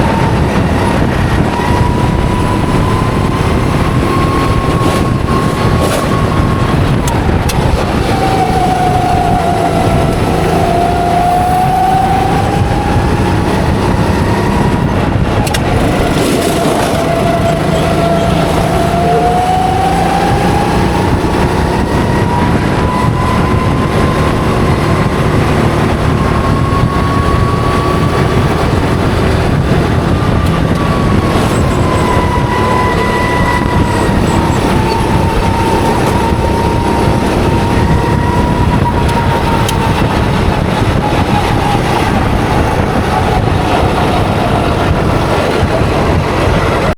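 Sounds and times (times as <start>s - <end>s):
go-kart engine revving: 0.0s - 46.9s
wind noise: 0.0s - 46.9s.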